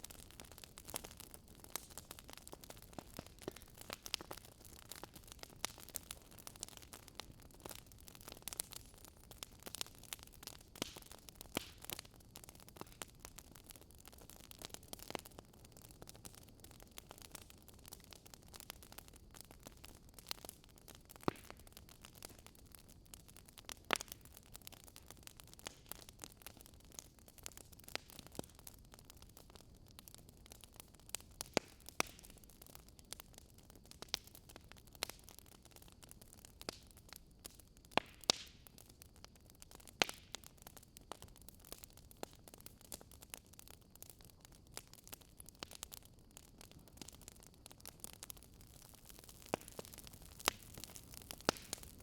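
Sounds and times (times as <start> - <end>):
fire popping and snapping: 0.0 - 52.0
wood fire crackling: 0.0 - 52.0.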